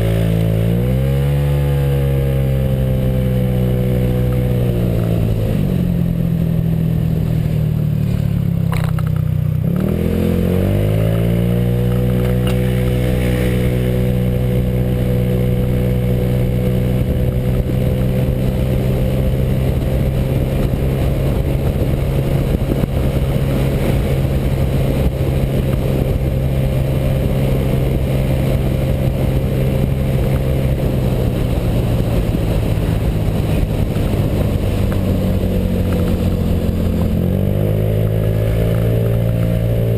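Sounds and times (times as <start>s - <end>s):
scooter engine accelerating: 0.0s - 39.9s.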